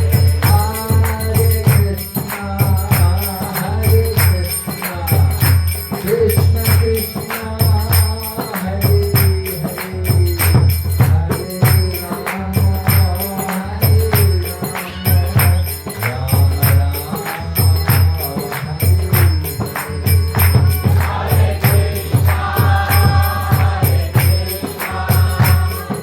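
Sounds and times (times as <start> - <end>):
jingling hand cymbals: 0.0 - 26.0.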